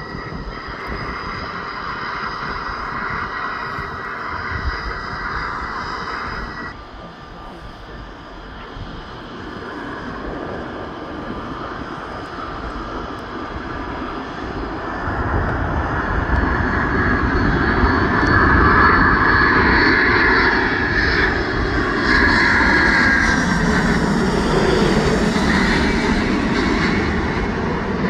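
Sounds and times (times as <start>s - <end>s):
high engine whine: 0.0s - 28.0s
jet airliner engines running: 0.0s - 28.0s.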